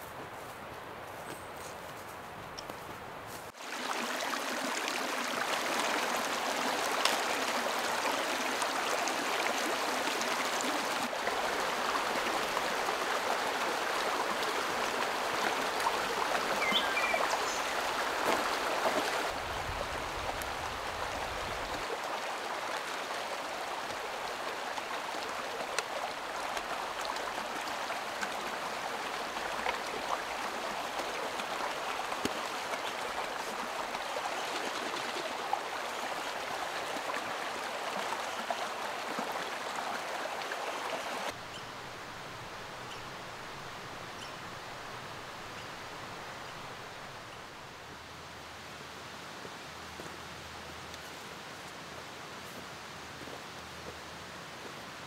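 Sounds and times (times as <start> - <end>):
creek rushing over rocks: 3.5 - 55.0.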